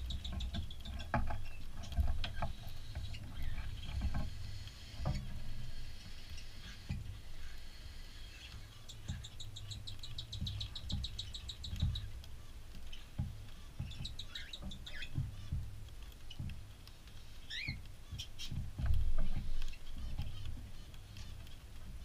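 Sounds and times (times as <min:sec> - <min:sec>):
cockatiels chirping: 0:00.0 - 0:16.5, 0:17.1 - 0:18.6.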